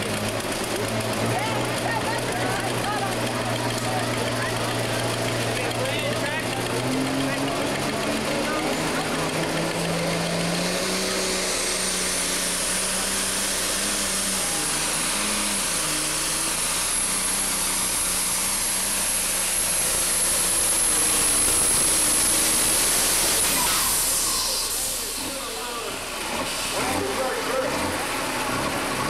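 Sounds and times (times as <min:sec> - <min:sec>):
diesel engine at full power: 0:00.0 - 0:29.0
high turbo whine: 0:00.0 - 0:29.0.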